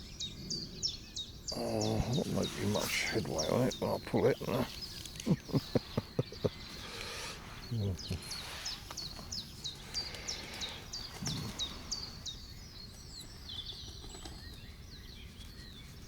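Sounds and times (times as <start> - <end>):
low outdoor background noise: 0.0 - 16.0
small bird singing: 0.0 - 16.0.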